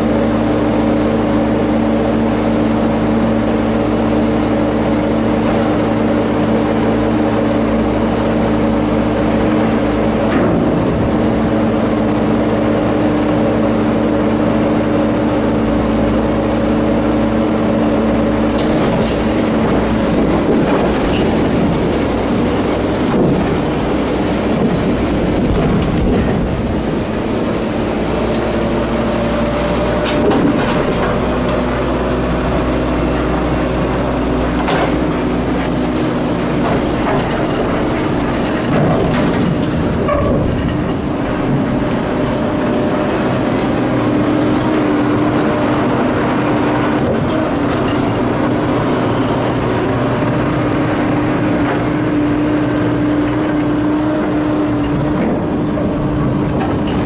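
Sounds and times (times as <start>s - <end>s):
train engine hum: 0.0s - 57.0s
train wheels rumbling on rail: 0.0s - 57.0s.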